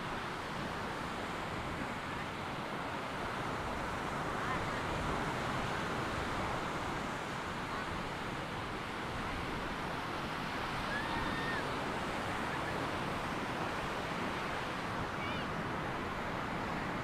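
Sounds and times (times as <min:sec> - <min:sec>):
waves washing onto sand: 0:00.0 - 0:17.0.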